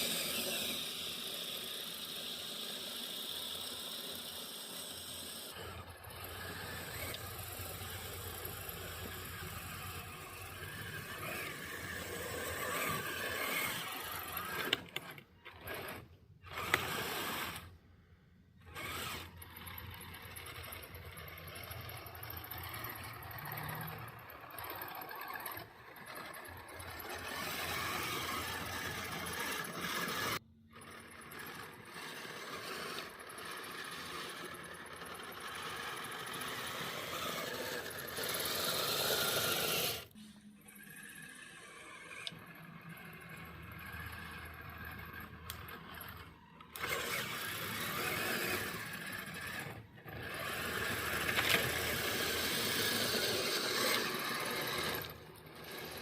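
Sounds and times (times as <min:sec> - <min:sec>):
electric motor and gearbox whirring: 0:00.0 - 0:56.0.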